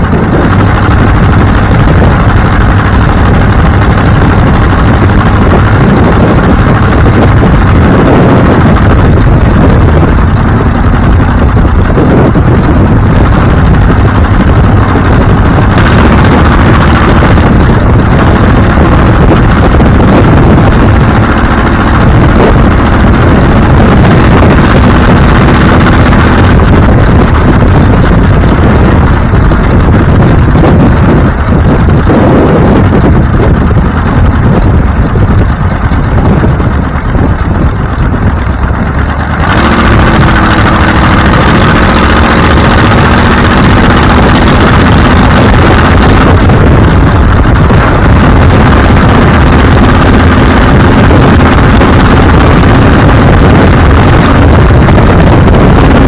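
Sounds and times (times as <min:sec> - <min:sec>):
car engine running: 0:00.0 - 0:56.0
road and wind noise: 0:00.0 - 0:56.0.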